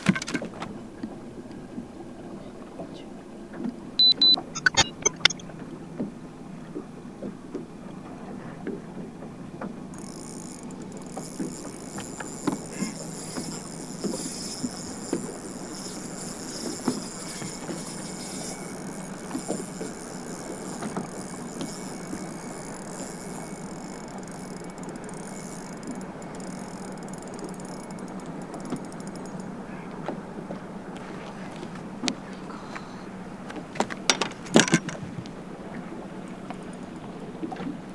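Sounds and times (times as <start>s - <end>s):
wind: 0.0s - 37.9s.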